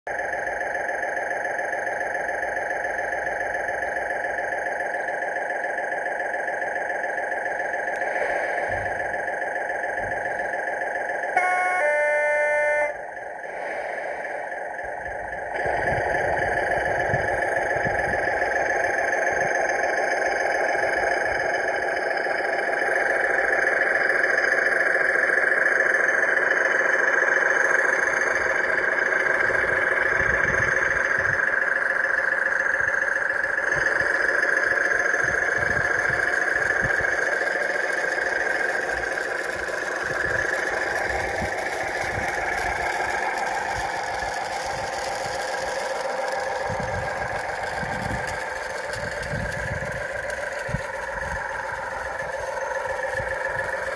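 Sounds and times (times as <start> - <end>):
diesel engine drone from loudspeaker: 0.1 - 53.9.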